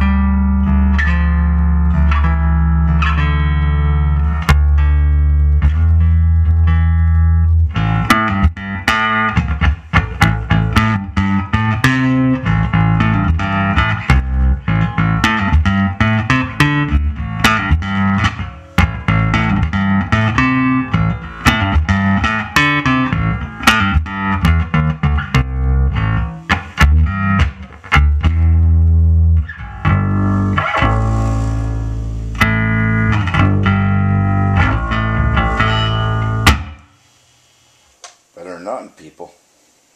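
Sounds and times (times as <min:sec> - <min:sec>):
bass guitar plucked notes: 0:00.0 - 0:36.8.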